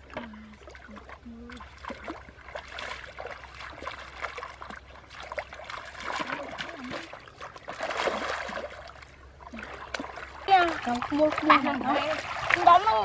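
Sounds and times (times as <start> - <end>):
splashing in shallow muddy water: 0.0 - 13.0
water trickling: 0.0 - 13.0.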